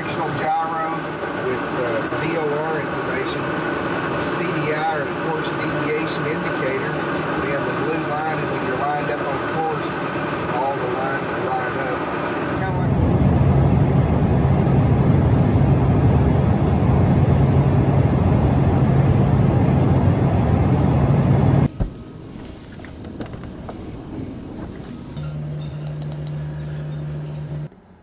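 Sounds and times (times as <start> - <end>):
jet cabin noise: 0.0 - 28.0
low steady hum: 0.0 - 28.0.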